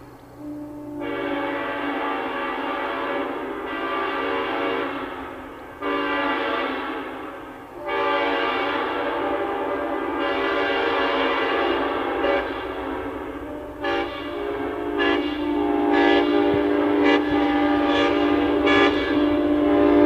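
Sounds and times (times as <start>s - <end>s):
train rumble: 0.0s - 20.0s
train air horn blasts: 0.1s - 20.0s.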